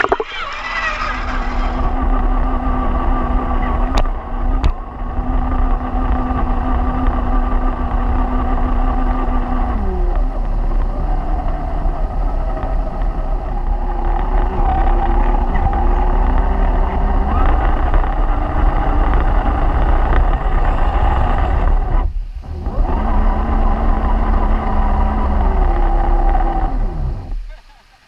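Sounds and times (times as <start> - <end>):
electric motor and gears whining: 0.0 - 27.5.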